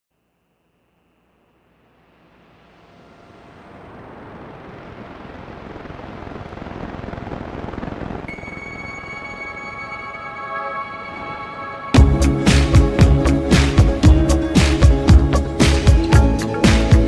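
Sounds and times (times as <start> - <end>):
deep noise riser: 1.5 - 17.0.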